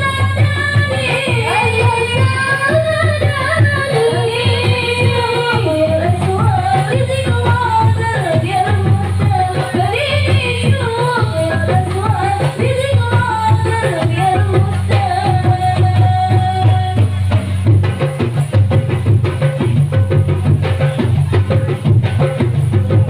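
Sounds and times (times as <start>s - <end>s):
hand drums beating: 0.0s - 23.0s.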